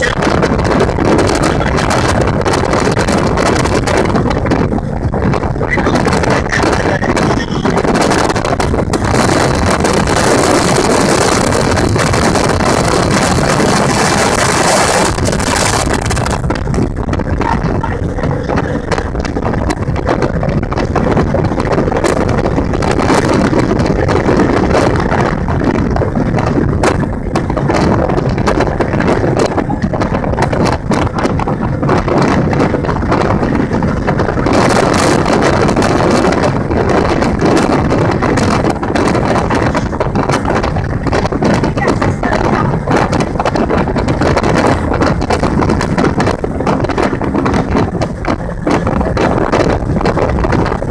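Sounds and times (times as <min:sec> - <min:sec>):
hull on water: 0:00.0 - 0:50.9
motorboat engine: 0:00.0 - 0:50.9
wind buffeting microphone: 0:00.0 - 0:50.9.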